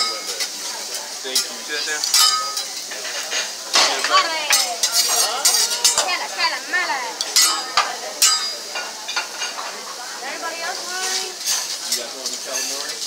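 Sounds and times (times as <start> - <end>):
food sizzling on hot plate: 0.0 - 13.0
metal spatula scraping on griddle: 0.0 - 13.0.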